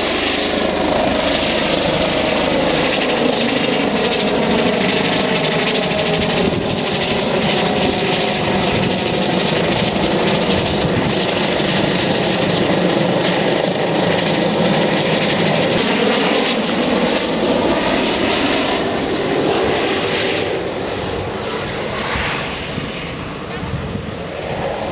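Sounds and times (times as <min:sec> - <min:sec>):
helicopter rotor and turbine: 0:00.0 - 0:24.9.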